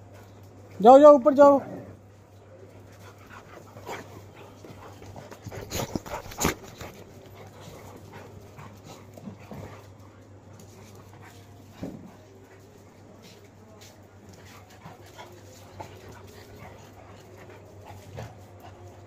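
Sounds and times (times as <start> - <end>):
dogs scuffling and playing: 1.7 - 19.0.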